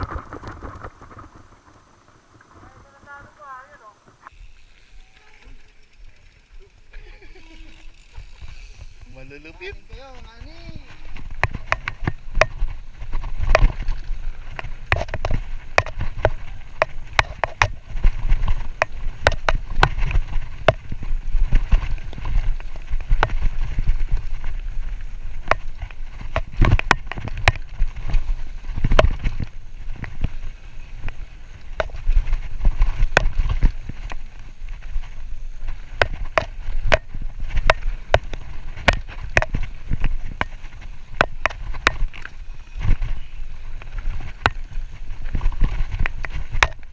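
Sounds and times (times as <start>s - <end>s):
bike clicking and rattling: 0.0s - 46.9s
wind and tyres rumbling: 0.0s - 46.9s.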